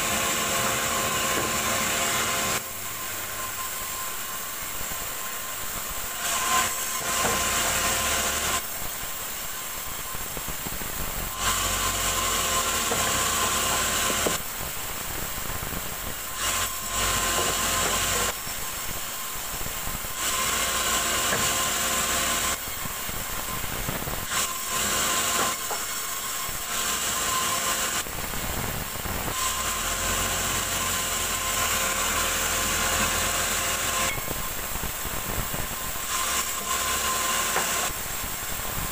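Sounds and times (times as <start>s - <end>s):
band saw cutting log: 0.0s - 14.8s, 15.9s - 38.9s.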